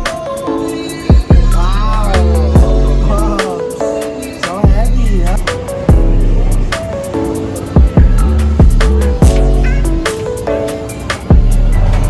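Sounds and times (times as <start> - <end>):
hip-hop music with heavy bass: 0.0 - 12.0.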